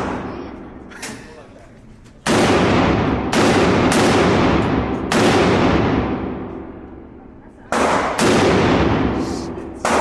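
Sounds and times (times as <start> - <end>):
echoing gunshots: 0.0 - 0.5, 2.2 - 10.0.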